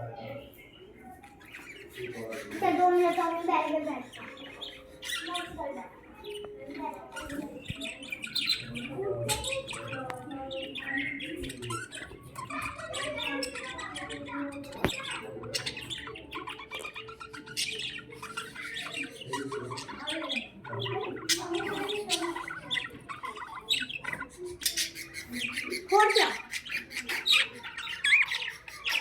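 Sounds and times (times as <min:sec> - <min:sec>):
budgerigars chirping and squawking: 0:00.0 - 0:29.0.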